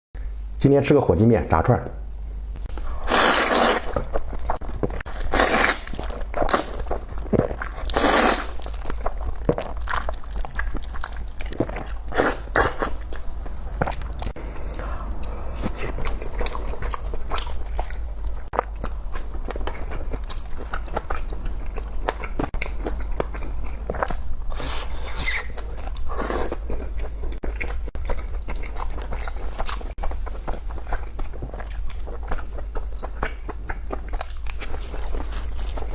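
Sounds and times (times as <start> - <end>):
chewing: 2.8 - 35.9.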